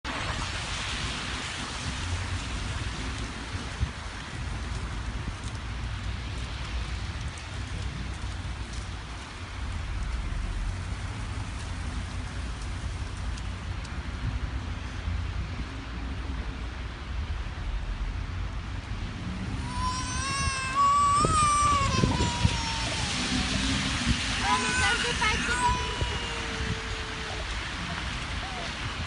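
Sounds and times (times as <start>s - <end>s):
low rumble of wind: 0.0s - 29.0s
hiss of wind-driven snow: 0.1s - 29.0s.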